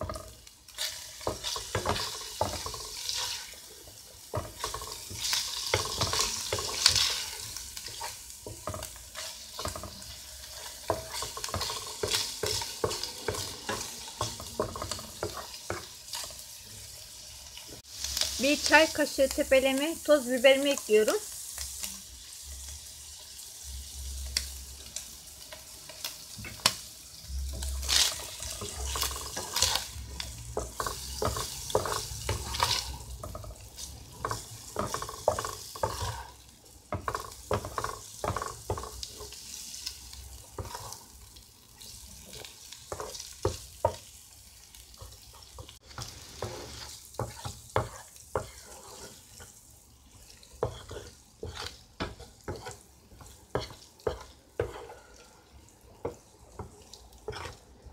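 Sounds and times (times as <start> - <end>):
wooden spoon scraping a pan: 0.0 - 17.0, 27.5 - 44.2, 44.9 - 57.9
chicken sizzling in oil: 0.0 - 57.9.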